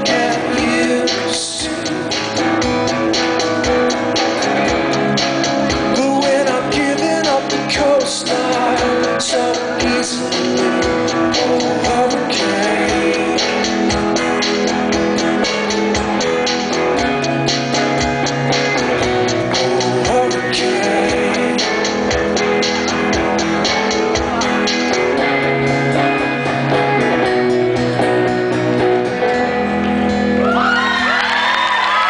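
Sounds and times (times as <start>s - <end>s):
drum kit steady beat: 0.0s - 29.0s
electric guitars holding chords: 0.0s - 32.0s.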